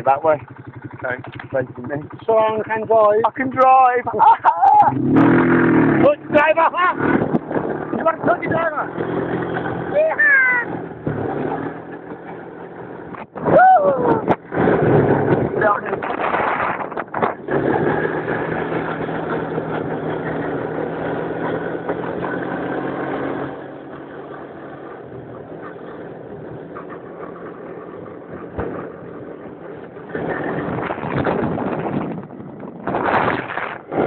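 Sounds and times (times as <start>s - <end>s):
quad bike engine humming: 0.0s - 34.0s.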